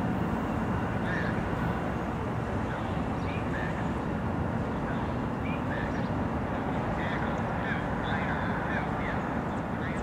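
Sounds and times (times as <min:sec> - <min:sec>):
diesel locomotive idling: 0:00.0 - 0:10.0.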